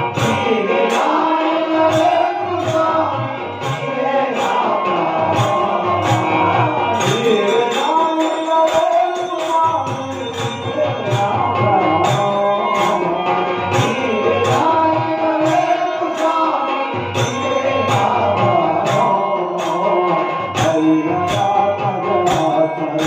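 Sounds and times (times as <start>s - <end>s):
harmonium chords: 0.0s - 23.0s
men singing devotional song: 0.0s - 23.0s.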